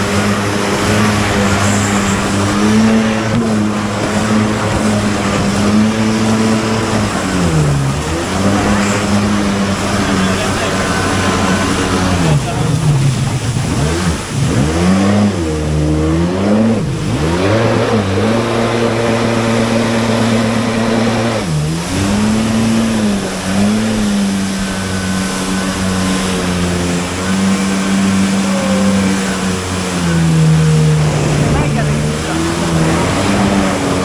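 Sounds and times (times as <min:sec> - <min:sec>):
personal watercraft engine running: 0:00.0 - 0:34.0
water spray rushing: 0:00.0 - 0:34.0
wind: 0:00.0 - 0:34.0.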